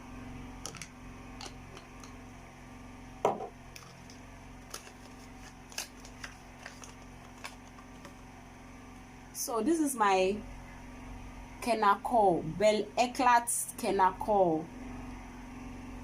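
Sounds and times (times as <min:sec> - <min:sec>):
low mains hum: 0:00.0 - 0:16.0.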